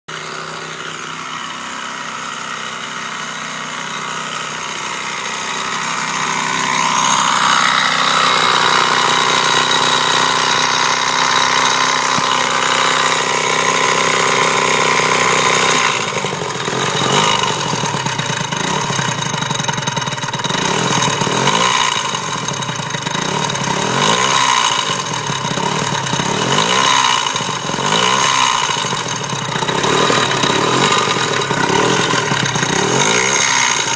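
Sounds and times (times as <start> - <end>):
engine rattle: 0.1 - 33.9
scooter engine running: 0.1 - 33.9.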